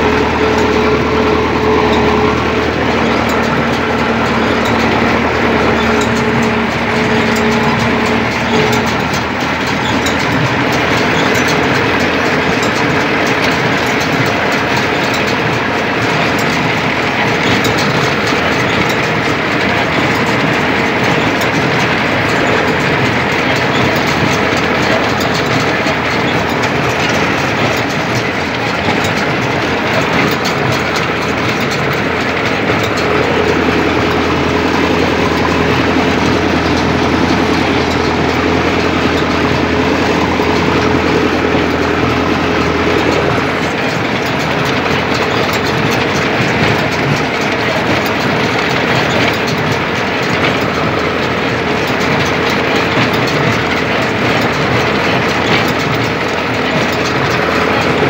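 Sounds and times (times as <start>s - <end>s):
baler clattering: 0.0s - 58.0s
tractor diesel engine running: 0.0s - 58.0s.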